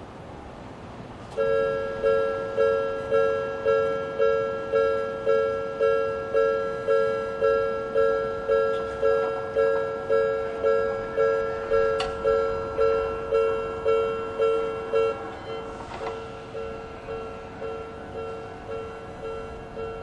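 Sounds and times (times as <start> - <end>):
electronic level crossing bell: 1.4 - 20.0.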